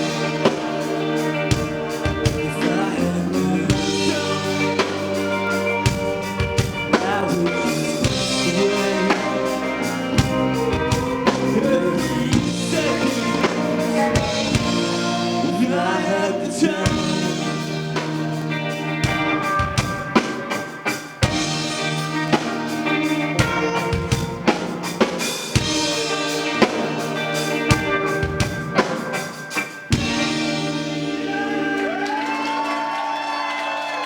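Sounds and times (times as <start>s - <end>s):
live band playing: 0.0s - 34.0s.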